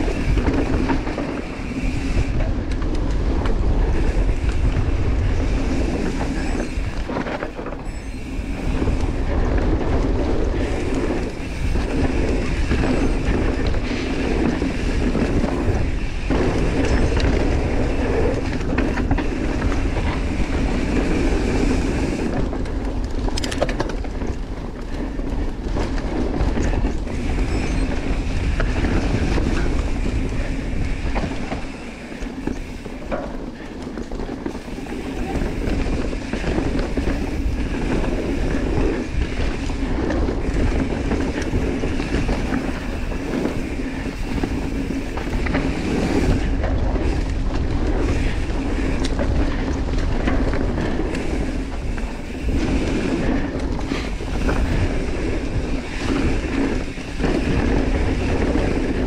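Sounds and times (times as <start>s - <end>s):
bike frame and chain clattering: 0.0s - 59.0s
bike tyres rumbling over dirt: 0.0s - 59.0s
wind noise on microphone: 0.0s - 59.0s.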